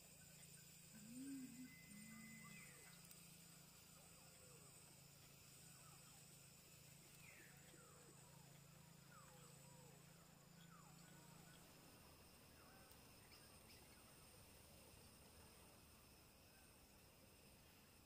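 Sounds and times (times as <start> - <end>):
steady low hum: 0.0 - 18.0
thin high steady tones: 0.0 - 18.0.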